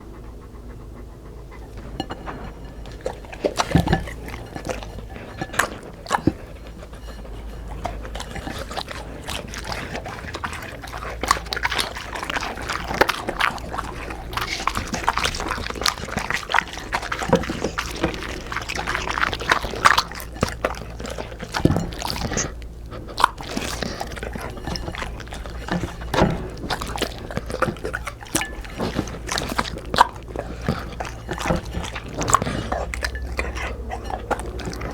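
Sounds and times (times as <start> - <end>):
dogs chewing and crunching: 0.0 - 34.9.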